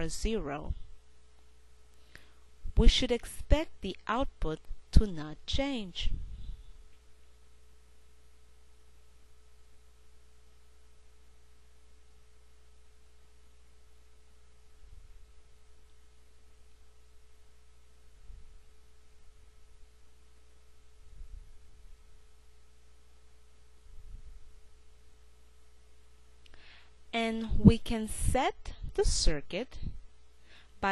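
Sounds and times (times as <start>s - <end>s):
electrical hum: 0.0s - 30.9s.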